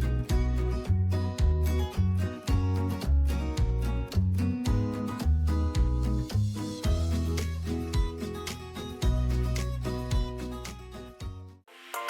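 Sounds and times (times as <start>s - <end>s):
background music with bass and guitar: 0.0s - 11.6s.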